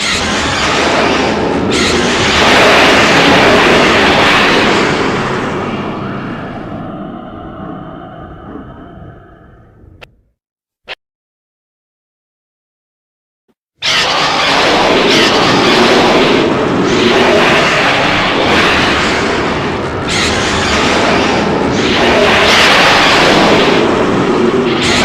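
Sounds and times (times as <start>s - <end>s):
loud rumbling rush of noise: 0.0s - 10.1s, 13.8s - 25.0s.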